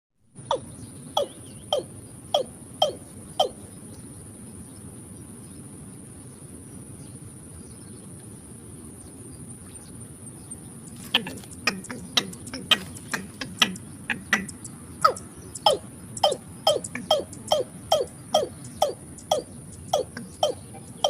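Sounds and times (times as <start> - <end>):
high insect-like hiss: 0.7 - 21.0.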